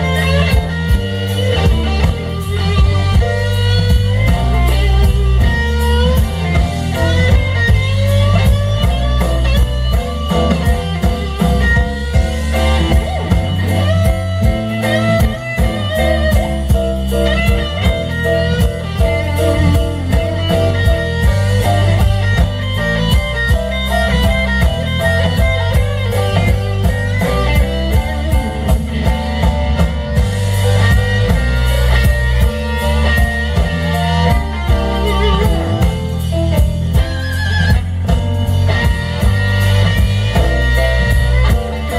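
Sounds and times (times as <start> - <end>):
electric blues band playing: 0.0 - 41.9
electric guitar solo: 0.0 - 41.9.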